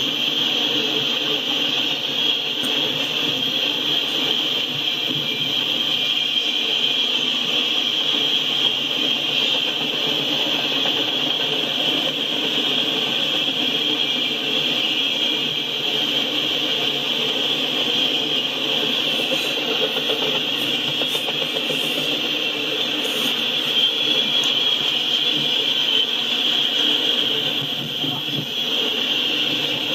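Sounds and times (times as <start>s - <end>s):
high-pitched hiss: 0.0s - 29.9s
train wheels rumbling on rail: 0.0s - 29.9s.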